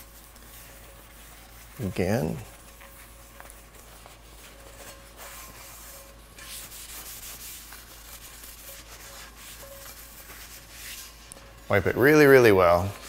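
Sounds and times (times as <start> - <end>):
paper towel wiping a skillet: 0.0 - 13.0.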